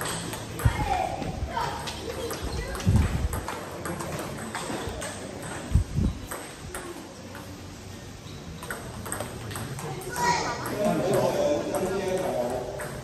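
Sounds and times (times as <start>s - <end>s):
table tennis balls ticking: 0.0s - 0.8s, 1.8s - 13.0s.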